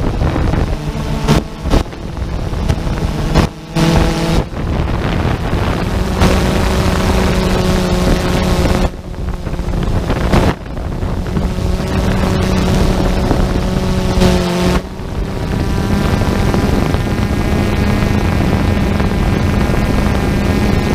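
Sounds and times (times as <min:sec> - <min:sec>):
drone propellers buzzing: 0:00.0 - 0:20.9
wind rushing over microphone: 0:00.0 - 0:20.9.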